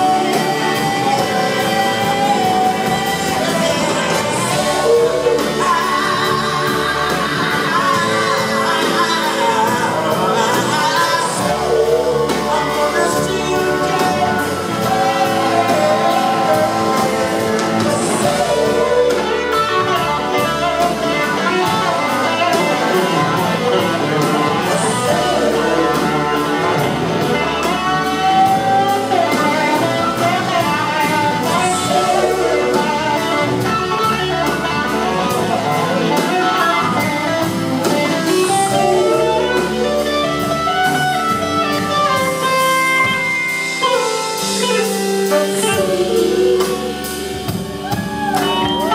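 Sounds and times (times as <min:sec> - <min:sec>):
blues-rock band playing: 0:00.0 - 0:48.9
drum kit: 0:00.0 - 0:48.9
electric guitar leading: 0:00.0 - 0:48.9.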